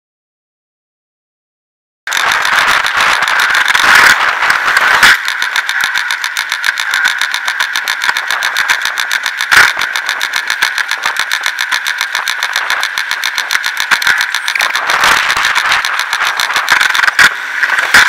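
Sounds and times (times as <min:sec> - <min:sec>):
coaster sled rattling on rail: 0:02.1 - 0:18.0.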